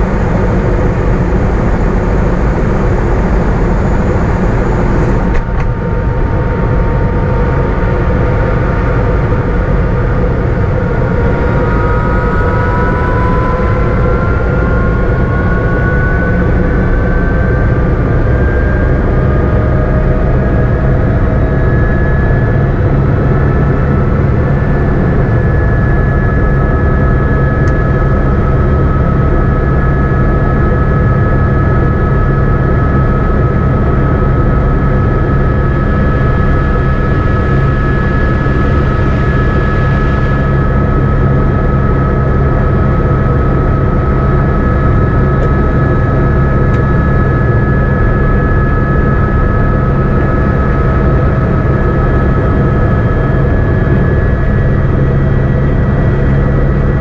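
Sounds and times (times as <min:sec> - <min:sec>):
helicopter engine and rotor drone: 0:00.0 - 0:57.0
high whine: 0:00.0 - 0:57.0.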